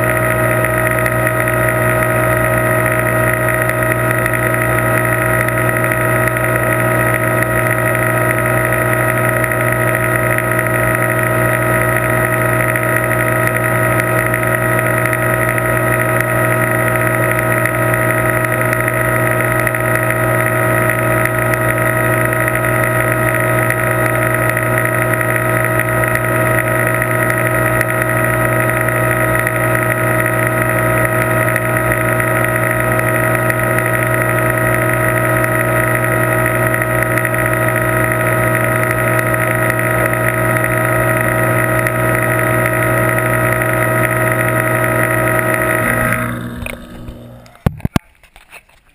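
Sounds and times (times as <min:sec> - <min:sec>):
aquarium pump humming: 0:00.0 - 0:48.4.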